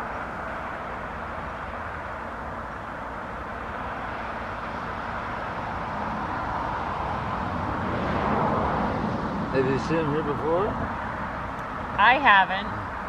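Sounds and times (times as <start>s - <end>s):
passing traffic road noise: 0.0s - 13.0s.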